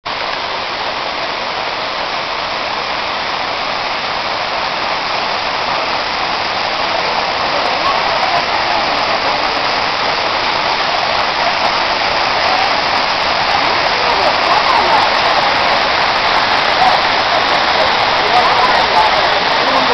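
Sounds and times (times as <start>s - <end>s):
waterfall rushing: 0.1s - 19.9s.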